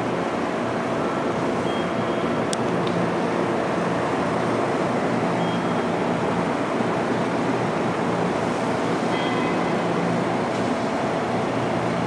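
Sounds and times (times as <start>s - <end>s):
diesel bus engine running: 0.0s - 12.0s.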